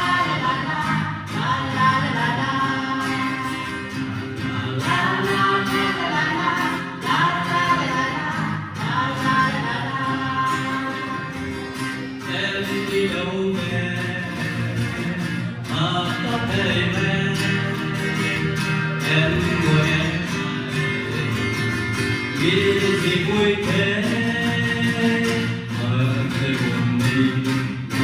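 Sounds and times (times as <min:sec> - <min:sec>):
band with guitar: 0:00.0 - 0:28.0
person singing: 0:00.0 - 0:28.0.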